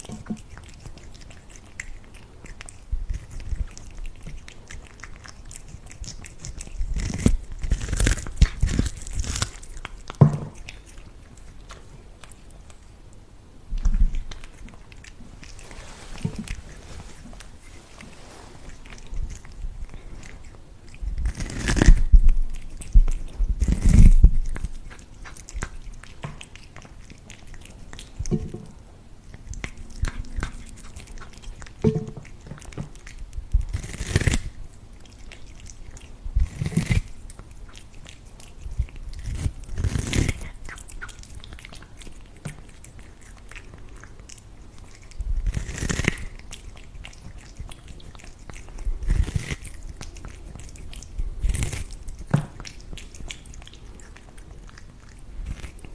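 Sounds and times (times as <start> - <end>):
cat chewing corn: 0.0 - 55.9.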